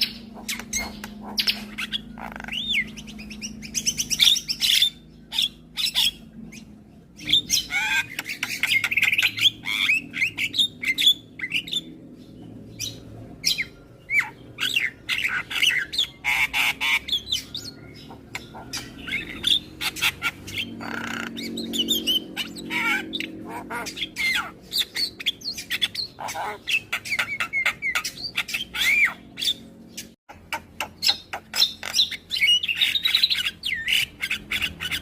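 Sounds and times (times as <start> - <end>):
myna bird singing: 0.0 - 35.0.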